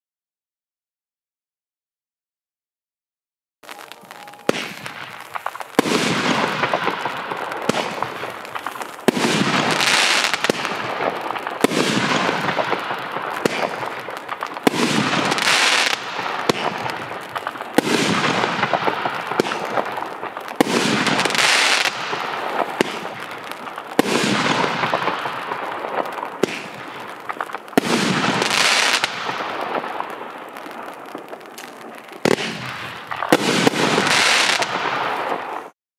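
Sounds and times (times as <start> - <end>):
firework crackling: 3.6 - 35.8.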